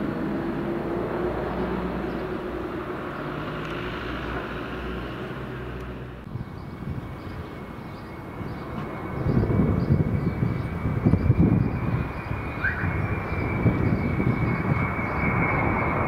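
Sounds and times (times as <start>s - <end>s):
jet engine high whine: 0.0s - 16.0s
jet engine low rumble: 0.0s - 16.0s.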